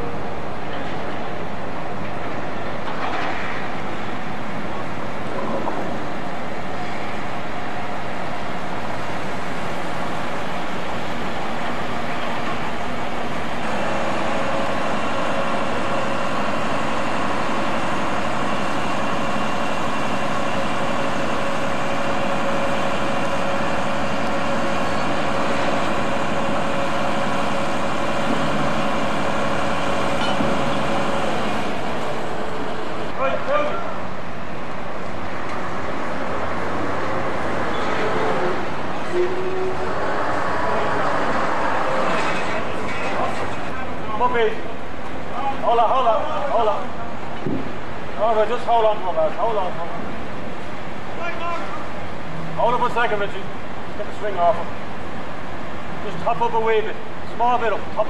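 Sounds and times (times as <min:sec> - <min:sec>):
crane engine running: 0:00.0 - 0:58.0.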